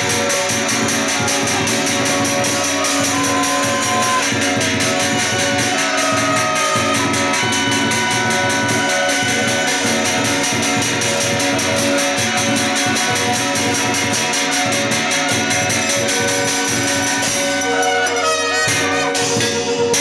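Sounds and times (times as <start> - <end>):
fast percussion beat: 0.0 - 20.0
shawms playing shrill melody: 0.0 - 20.0.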